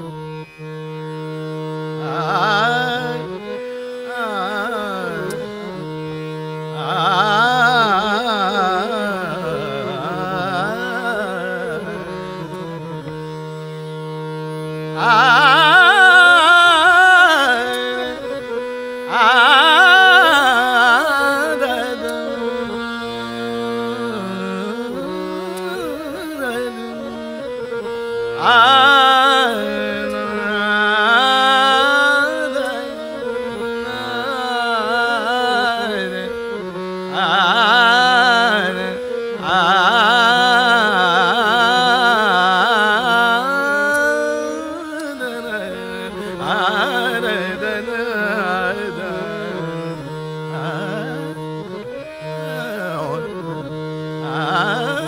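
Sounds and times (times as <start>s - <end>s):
harmonium: 0.0s - 55.0s
person singing wordless melody: 0.0s - 55.0s
tanpura drone: 0.0s - 55.0s.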